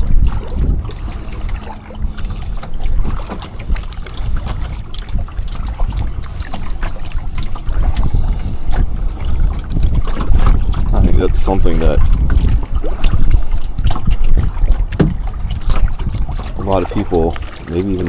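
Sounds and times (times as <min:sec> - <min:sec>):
low wind rumble: 0:00.0 - 0:18.0
paddle splashing water: 0:00.0 - 0:18.0.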